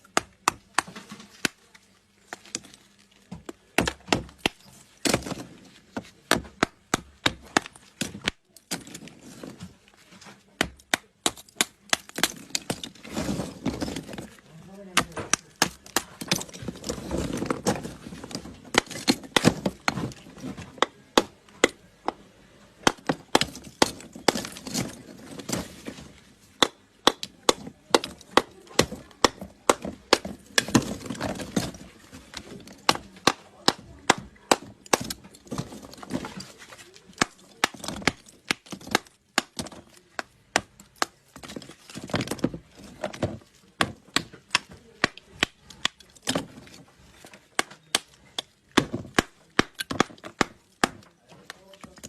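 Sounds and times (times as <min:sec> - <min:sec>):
crumbling chalk: 0:00.0 - 0:21.6, 0:22.6 - 0:52.0
hammer cracking chalk lumps: 0:00.0 - 0:22.2, 0:22.8 - 0:52.0.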